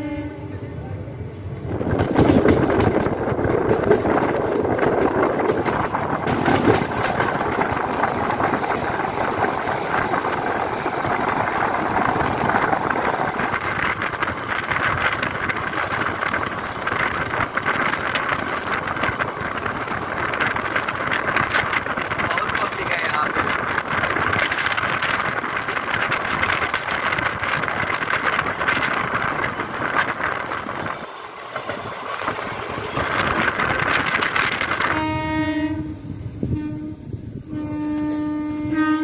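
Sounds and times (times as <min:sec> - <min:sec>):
train rumble: 0:00.0 - 0:39.0
wheels clicking on track: 0:01.7 - 0:35.1.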